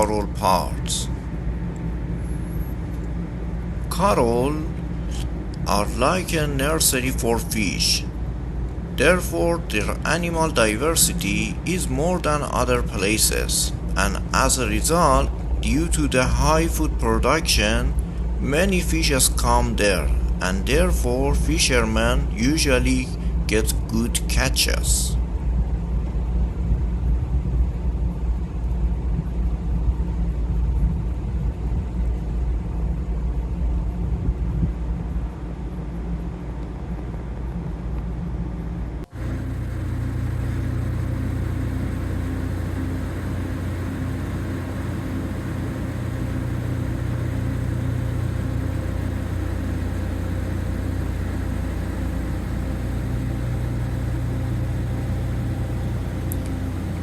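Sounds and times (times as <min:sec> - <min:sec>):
low hum with held tones: 0:00.0 - 0:57.0
low mechanical rumble: 0:00.0 - 0:57.0.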